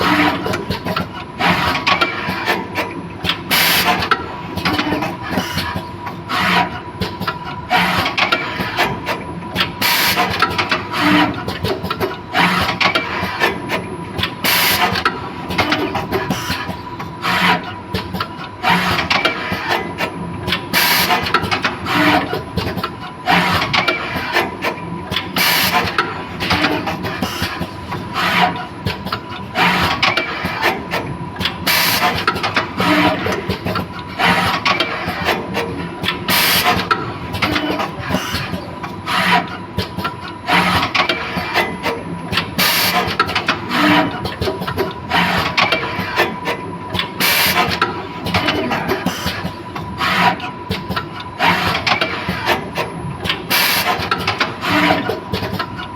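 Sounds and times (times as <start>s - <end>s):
machine clatter: 6.6s - 55.9s.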